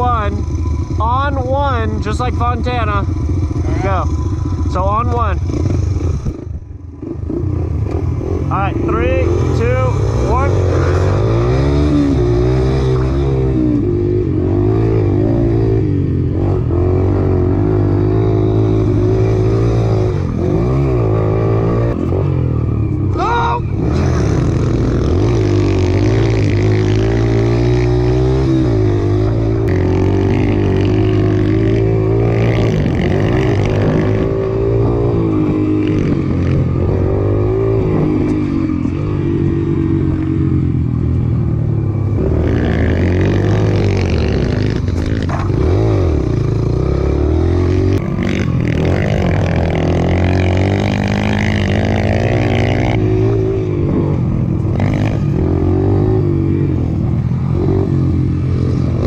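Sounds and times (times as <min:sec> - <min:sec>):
small dirt bike engines revving: 0:00.0 - 0:40.6, 0:41.9 - 0:59.0.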